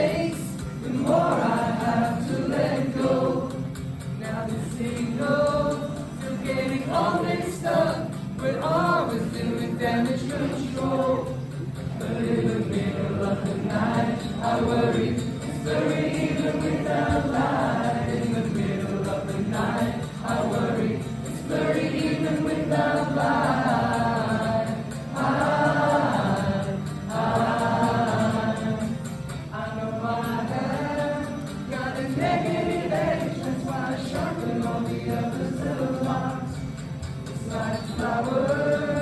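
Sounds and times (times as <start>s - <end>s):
voices singing together: 0.0s - 39.0s.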